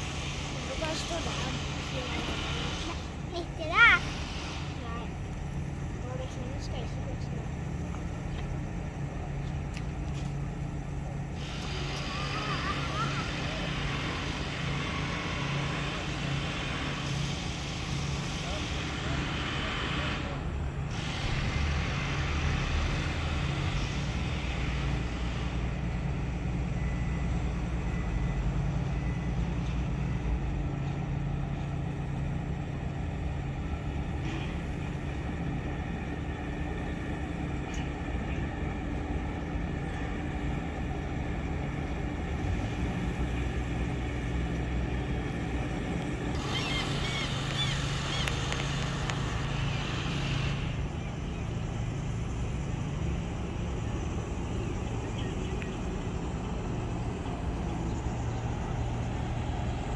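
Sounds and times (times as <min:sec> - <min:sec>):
ship engines humming: 0:00.0 - 0:59.9.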